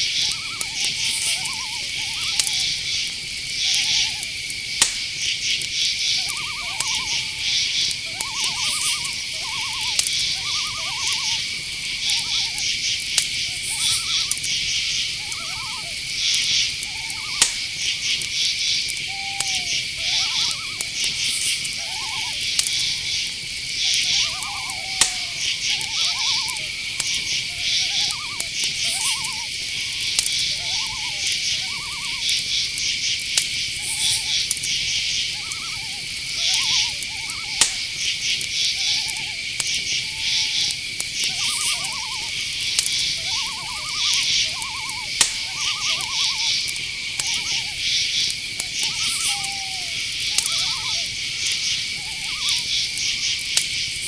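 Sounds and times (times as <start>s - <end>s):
lower rising and falling calls: 0.0s - 5.1s, 6.0s - 33.0s, 33.7s - 53.6s
sharp clicks: 0.0s - 53.8s
crickets trilling: 0.0s - 54.0s.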